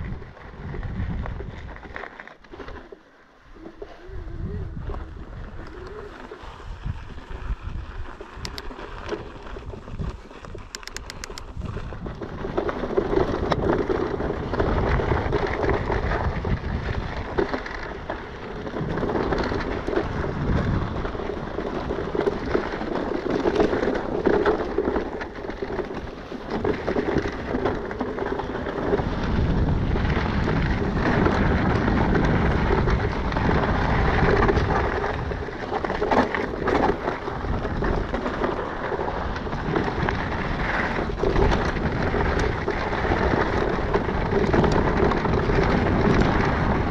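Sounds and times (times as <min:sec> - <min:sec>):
wind rushing over microphone: 0:00.0 - 0:02.0, 0:03.5 - 0:46.9
tyres crunching over loose stones: 0:00.0 - 0:04.0, 0:04.7 - 0:46.9
bike rattles and knocks: 0:00.0 - 0:46.9.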